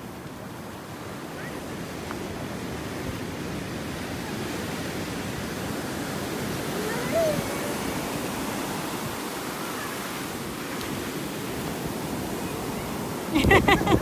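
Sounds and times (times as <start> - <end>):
ocean surf washing up beach: 0.0 - 14.0.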